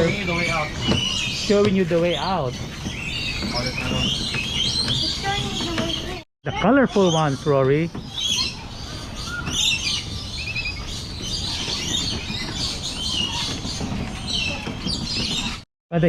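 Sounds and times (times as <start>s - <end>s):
birds chirping and trilling: 0.0s - 15.7s.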